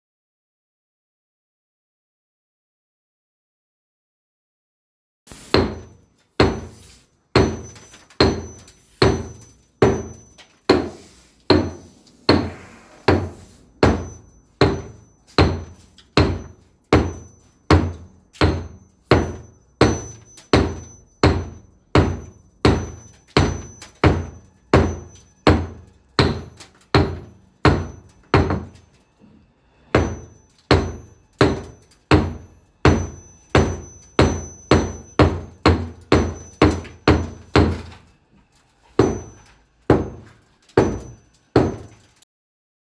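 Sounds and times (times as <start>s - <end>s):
hammer striking: 5.3s - 42.2s.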